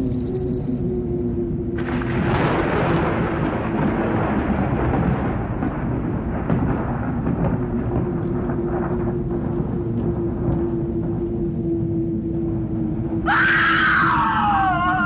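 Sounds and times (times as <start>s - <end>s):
low drone: 0.0s - 15.0s
thunder rumbling: 0.0s - 15.0s.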